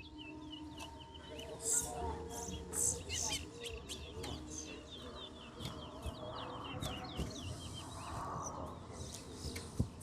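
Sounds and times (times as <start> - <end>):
songbird twittering chirps: 0.0 - 10.0.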